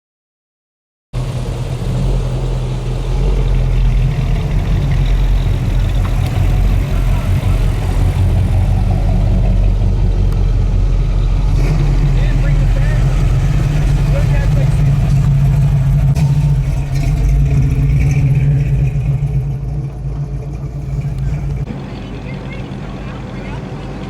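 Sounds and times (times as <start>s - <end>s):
car engine running: 1.2s - 24.0s.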